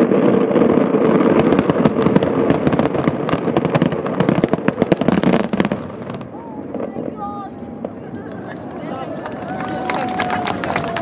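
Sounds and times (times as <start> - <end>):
fireworks bursts rumbling: 0.0 - 11.0
fireworks crackling pops: 0.0 - 11.0.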